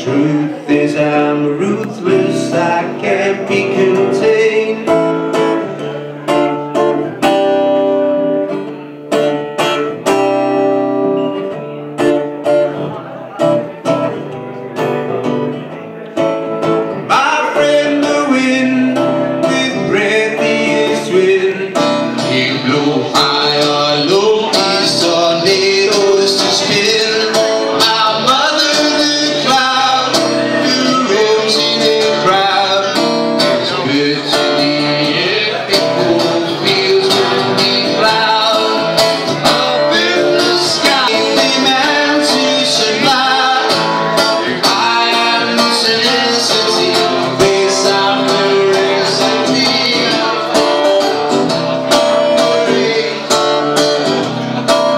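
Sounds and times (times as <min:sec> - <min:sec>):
live band playing country-rock: 0:00.0 - 0:54.9.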